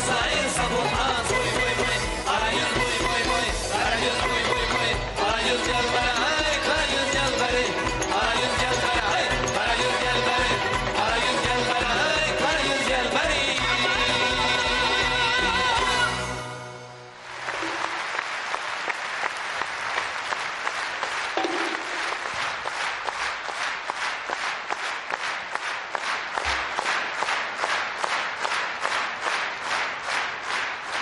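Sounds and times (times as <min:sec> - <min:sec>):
audience clapping in unison: 0:00.0 - 0:16.0, 0:17.2 - 0:31.0.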